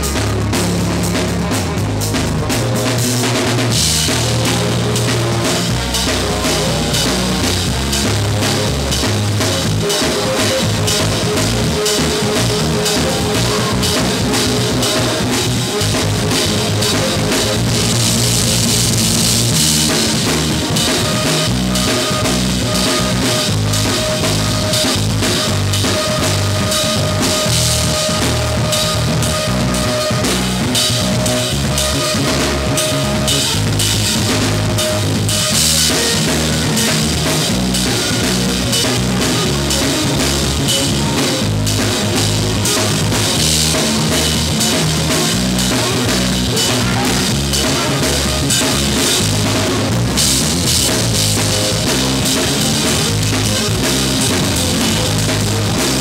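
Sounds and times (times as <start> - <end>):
bass drum: 0.0 - 56.0
drum kit played with rods: 0.0 - 56.0
electric bass line: 0.0 - 56.0
held higher note: 2.8 - 50.0.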